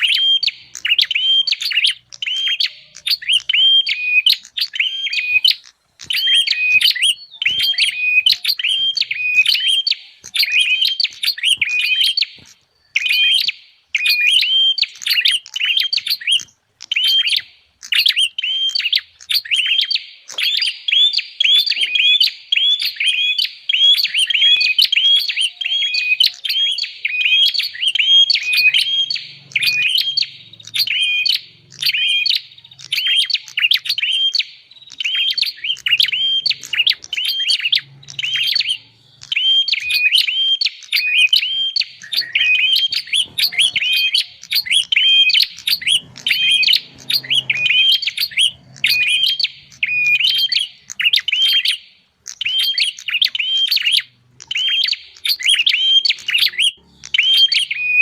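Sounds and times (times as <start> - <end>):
bird chirping notes: 0.0 - 58.0.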